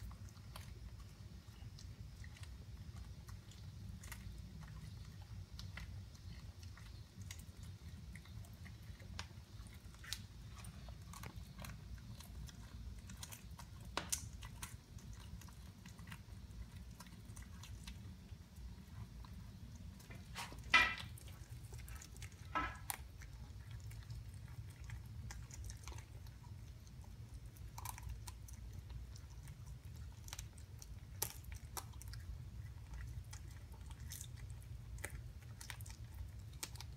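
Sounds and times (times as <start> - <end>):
cat chewing: 0.0 - 36.9.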